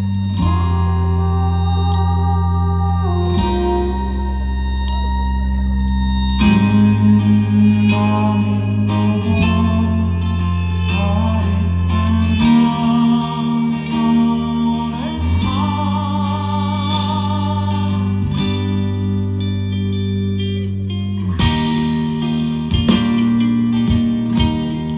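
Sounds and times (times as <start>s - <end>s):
lead guitar with wide vibrato: 0.0s - 24.9s
live rock band instrumental: 0.0s - 24.9s.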